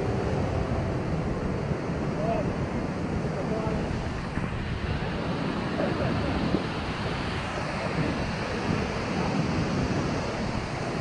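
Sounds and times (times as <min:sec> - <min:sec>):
water rushing: 0:00.0 - 0:11.0
wind gusting on microphone: 0:00.0 - 0:11.0.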